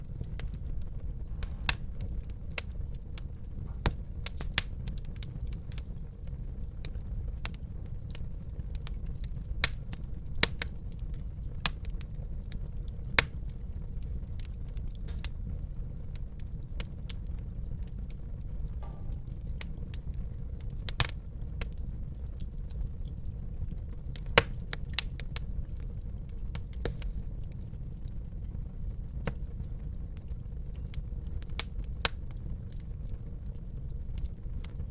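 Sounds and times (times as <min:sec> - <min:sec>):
fire crackling and popping: 0:00.0 - 0:34.9
fire rumbling in fireplace: 0:00.0 - 0:34.9.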